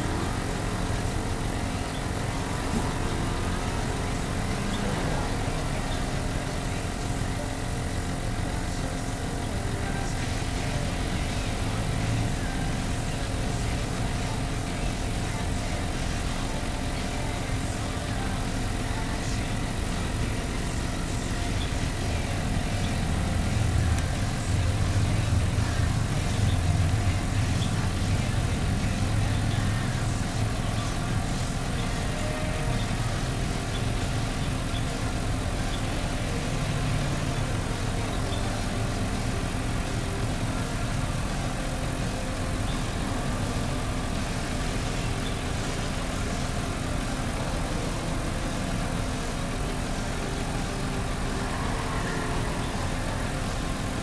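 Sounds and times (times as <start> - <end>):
air compressor humming: 0.0 - 54.0.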